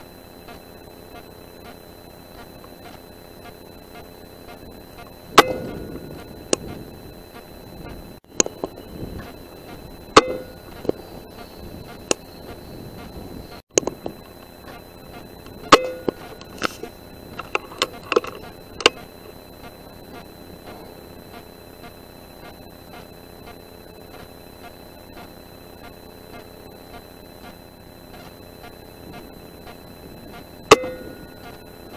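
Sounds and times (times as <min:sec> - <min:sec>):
faint high whine: 0:00.0 - 0:31.9.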